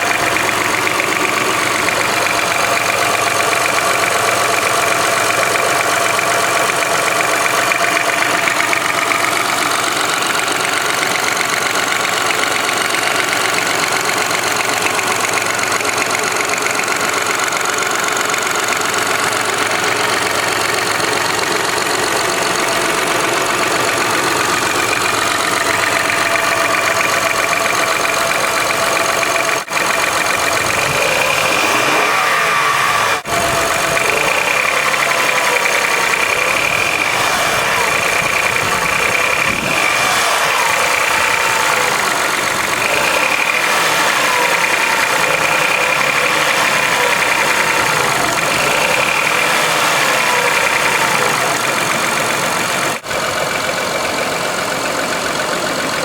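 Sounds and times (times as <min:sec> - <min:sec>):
car engine running with ticking: 0:00.0 - 0:56.0.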